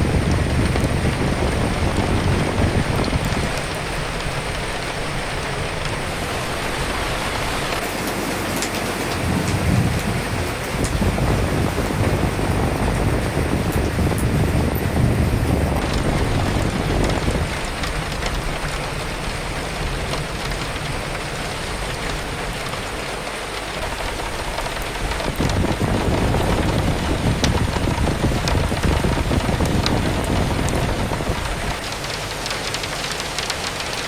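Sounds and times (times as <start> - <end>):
raindrop taps: 0.0 - 6.2, 7.6 - 34.0
steady rain: 0.0 - 34.0
wind rumble: 0.0 - 34.0.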